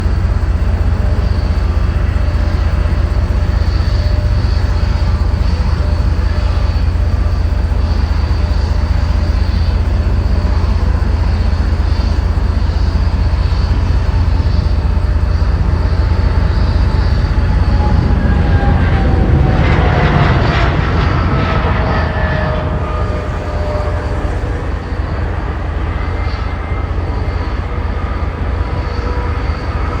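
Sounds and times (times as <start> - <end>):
faint whining tones: 0.0 - 30.0
jet engines running: 0.0 - 30.0
wind buffeting microphone: 0.0 - 30.0.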